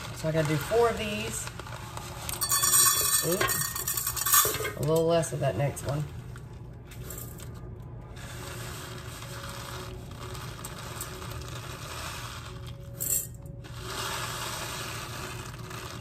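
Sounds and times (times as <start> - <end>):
dry rice pouring: 0.0 - 4.4, 7.0 - 16.0.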